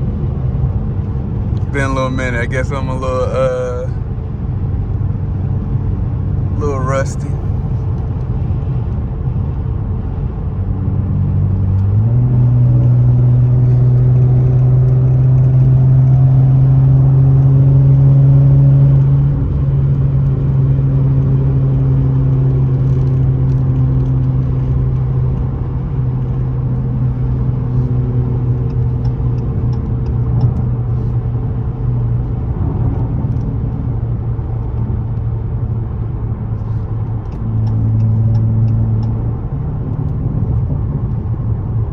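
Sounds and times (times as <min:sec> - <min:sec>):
car exhaust while driving: 0:00.0 - 0:41.9.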